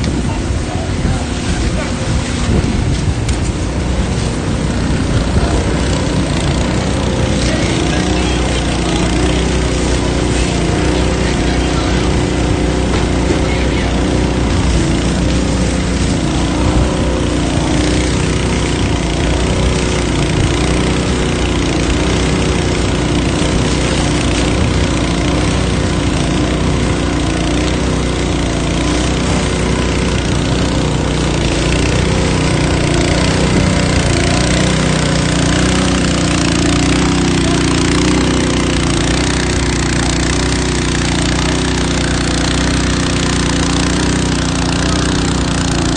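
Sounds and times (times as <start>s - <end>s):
pump engine running steadily: 0.0s - 45.9s.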